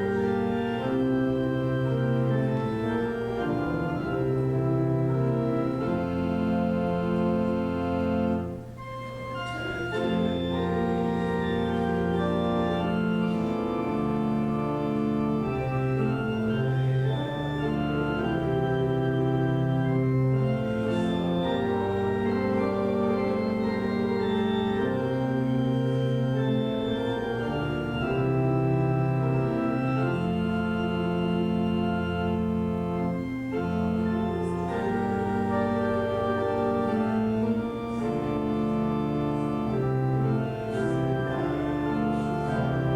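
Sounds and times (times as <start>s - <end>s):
church organ chords: 0.0s - 42.9s.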